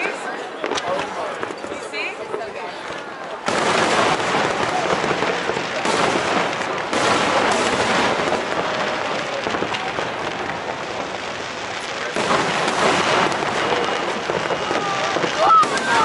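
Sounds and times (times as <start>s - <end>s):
crowd voices: 0.0s - 16.0s
fireworks bursting and crackling: 0.0s - 16.0s.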